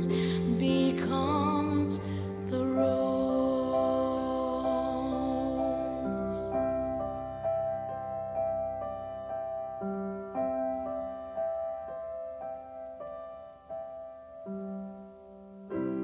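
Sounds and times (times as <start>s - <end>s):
slow soft piano melody: 0.0s - 16.0s.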